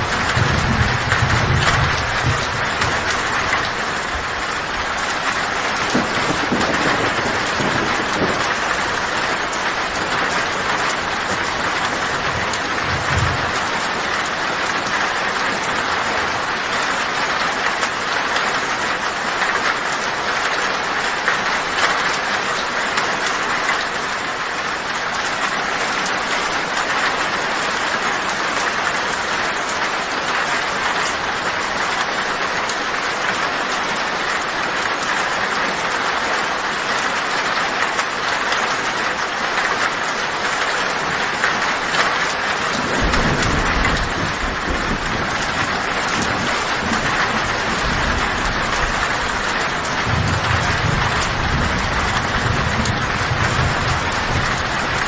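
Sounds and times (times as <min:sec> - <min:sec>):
heavy rain on tin roof: 0:00.0 - 0:55.0.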